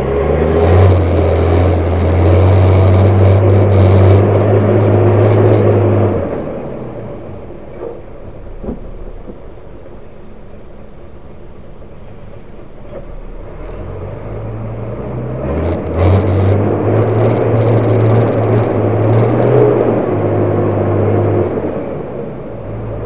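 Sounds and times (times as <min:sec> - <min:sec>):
diesel truck engine: 0:00.0 - 0:23.0.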